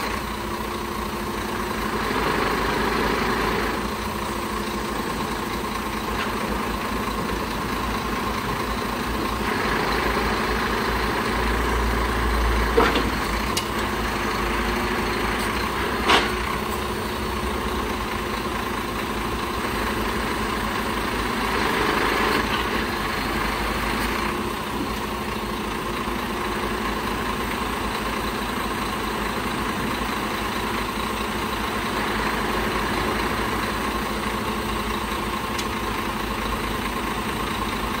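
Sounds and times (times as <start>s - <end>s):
truck diesel engine idling: 0.0s - 38.0s.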